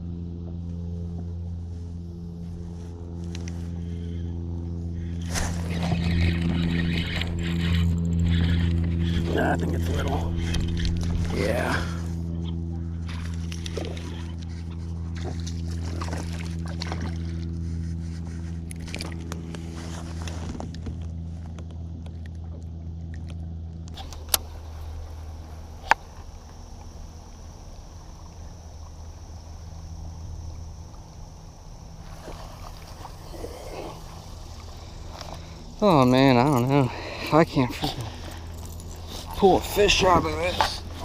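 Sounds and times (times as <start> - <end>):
boat motor humming: 0.0 - 41.0.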